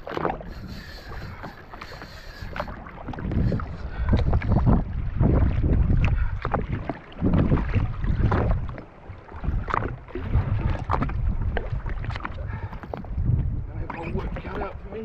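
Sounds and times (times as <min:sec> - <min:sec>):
water splashing and slapping: 0:00.0 - 0:15.0
wind buffeting microphone: 0:00.0 - 0:15.0.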